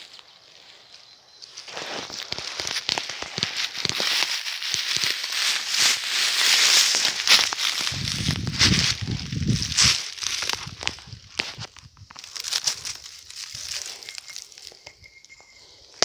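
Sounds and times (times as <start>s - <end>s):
footsteps crunching through dry leaves: 0.0s - 15.8s.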